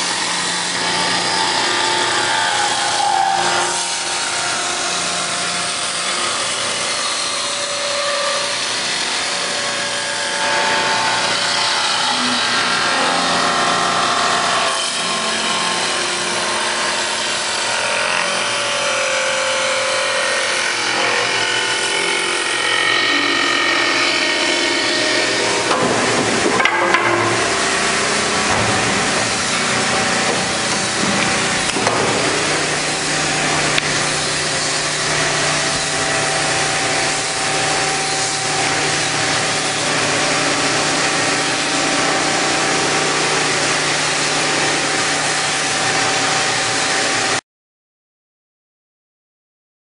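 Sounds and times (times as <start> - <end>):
machine hum: 0.0 - 47.3
lathe knives cutting wood: 0.0 - 47.4.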